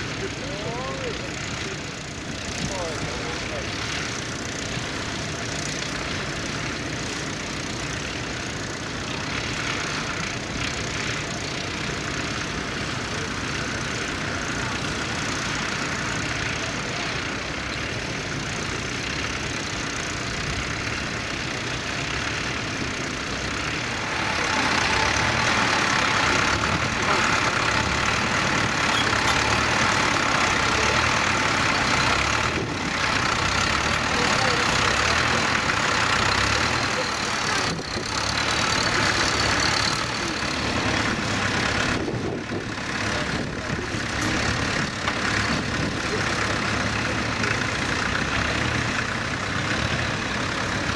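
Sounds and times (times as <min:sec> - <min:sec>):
second tractor engine close by: 0:00.0 - 0:50.9
tractor engine under load: 0:00.0 - 0:50.9.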